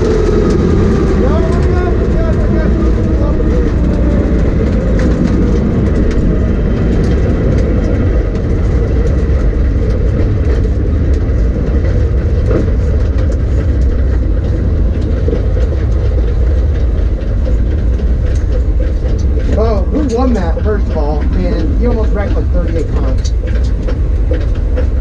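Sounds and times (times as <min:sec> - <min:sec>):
race car engine rumble: 0:00.0 - 0:25.0
rattles and clicks: 0:00.0 - 0:25.0.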